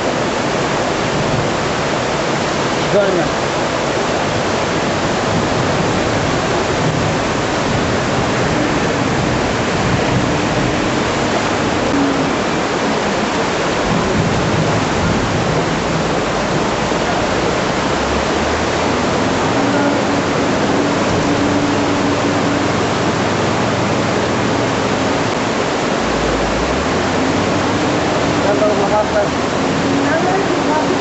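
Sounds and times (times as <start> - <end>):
floodwater rushing torrent: 0.0 - 31.0.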